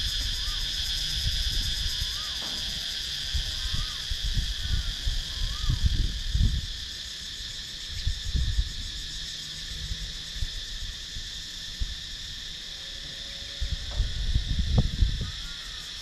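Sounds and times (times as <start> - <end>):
cicadas droning: 0.0 - 16.0
wind rumbling on microphone: 0.0 - 16.0.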